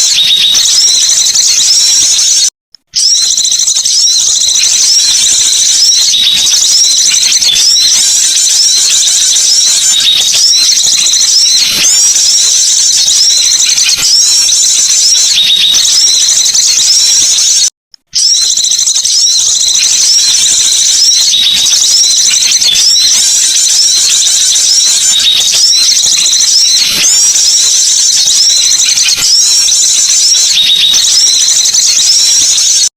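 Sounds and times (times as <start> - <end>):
birds chirping and twittering: 0.0 - 32.9.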